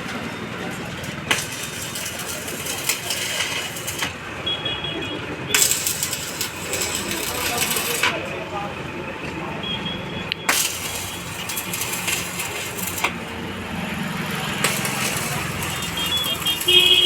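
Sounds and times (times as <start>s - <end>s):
welding arc crackling: 0.3s - 8.3s, 10.3s - 17.0s.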